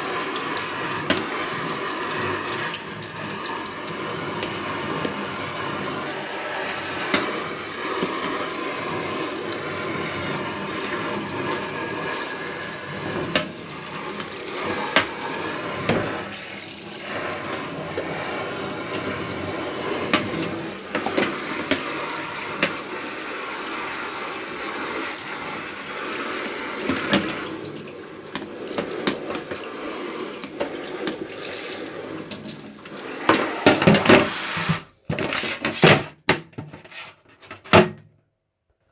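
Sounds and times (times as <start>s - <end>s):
tap water running into sink: 0.0s - 36.0s.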